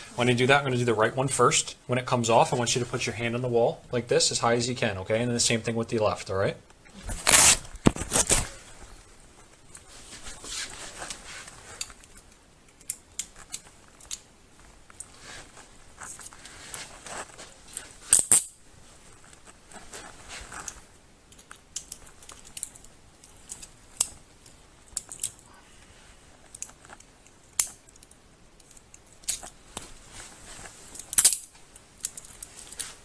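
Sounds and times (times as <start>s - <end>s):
soft rustling: 0.0s - 3.8s, 6.7s - 33.0s.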